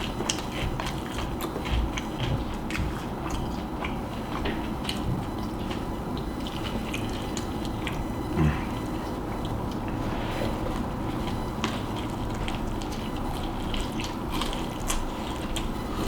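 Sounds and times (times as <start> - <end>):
person chewing with wet smacking: 0.0 - 16.0.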